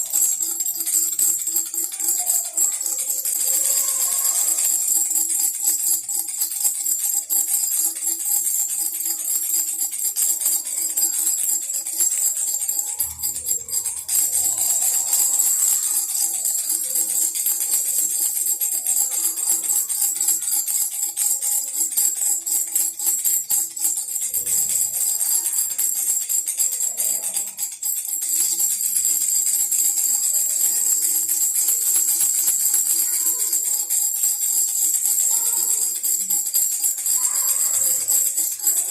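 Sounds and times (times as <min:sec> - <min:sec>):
baby rattle jingling: 0:00.0 - 0:38.9.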